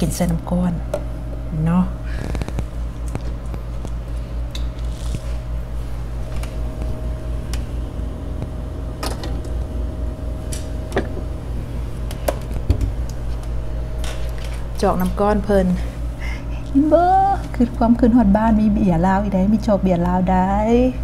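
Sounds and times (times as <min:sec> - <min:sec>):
ice maker humming: 0:00.0 - 0:20.8.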